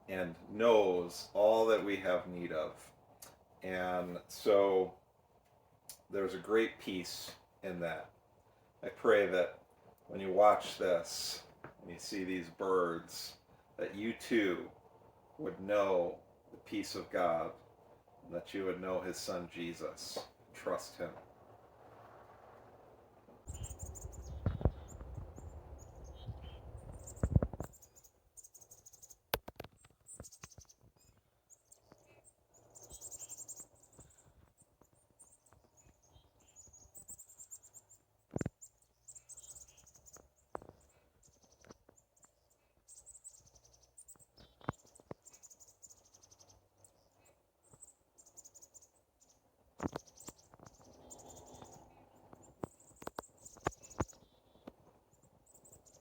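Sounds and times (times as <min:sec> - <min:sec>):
songbirds chirping and trilling: 0:00.0 - 0:21.8, 0:23.4 - 0:56.0.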